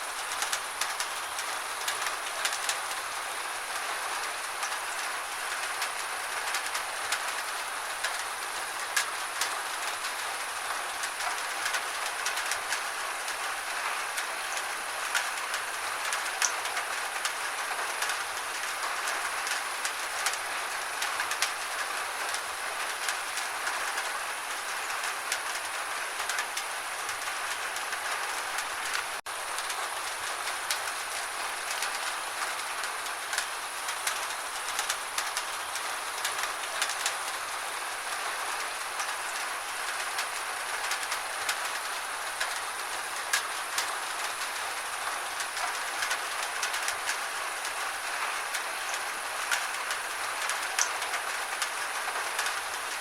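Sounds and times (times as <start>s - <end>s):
gentle rain: 0.0s - 53.0s.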